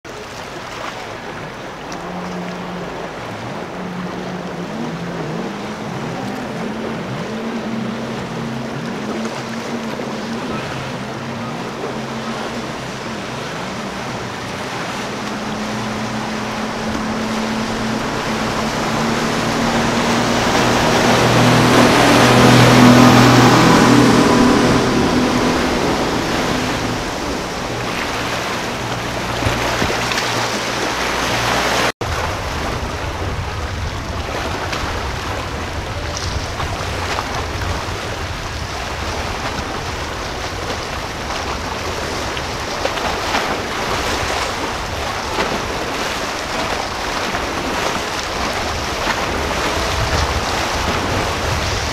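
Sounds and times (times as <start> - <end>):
boat engines passing: 0.0 - 51.9
water rushing: 0.0 - 51.9
wind: 0.0 - 51.9.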